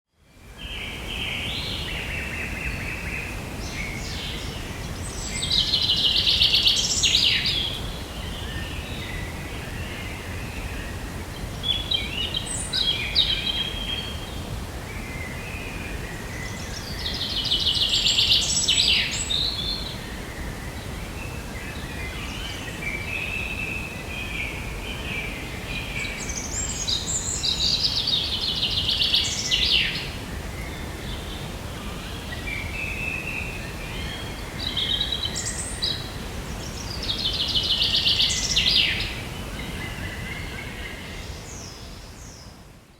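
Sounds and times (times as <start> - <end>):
songbirds singing: 0.6 - 42.9.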